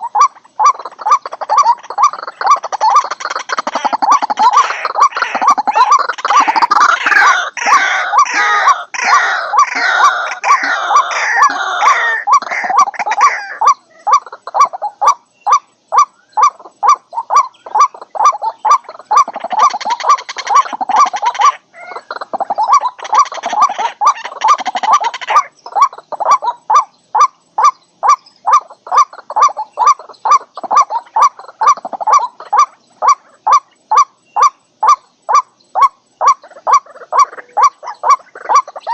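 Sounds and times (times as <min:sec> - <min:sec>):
harsh croaking bird chorus: 0:00.0 - 0:38.9
repeated short kwak calls: 0:00.0 - 0:38.9.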